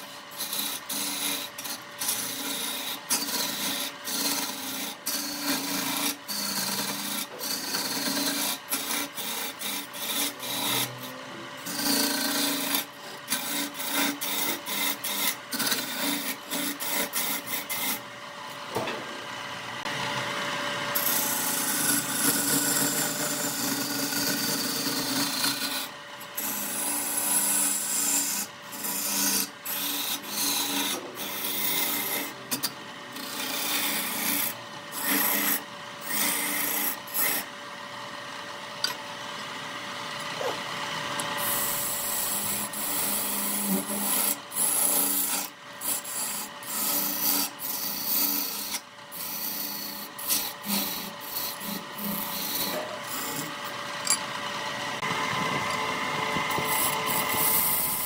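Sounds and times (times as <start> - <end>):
turning tool scraping spinning wood: 0.0 - 18.8, 19.8 - 37.6, 38.8 - 58.0.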